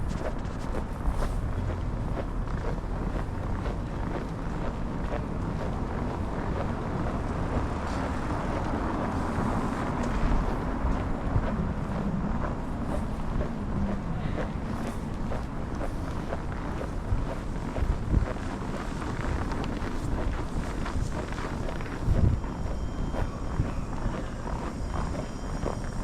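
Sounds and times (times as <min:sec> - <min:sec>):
traffic running: 0:00.0 - 0:26.0
wind rumbling on microphone: 0:00.0 - 0:26.0.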